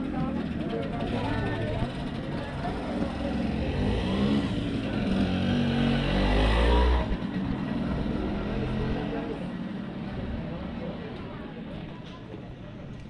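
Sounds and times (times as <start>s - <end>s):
vehicle engine accelerating: 0.0s - 11.2s.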